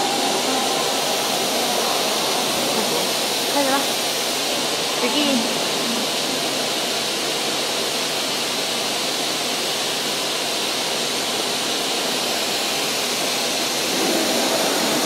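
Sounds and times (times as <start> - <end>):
machinery rushing noise: 0.0 - 8.5, 10.7 - 15.0.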